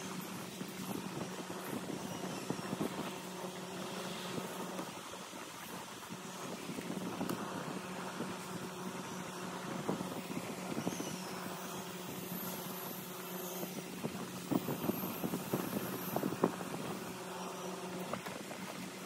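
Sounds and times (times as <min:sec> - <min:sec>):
electric insect killer humming: 0:00.0 - 0:19.0.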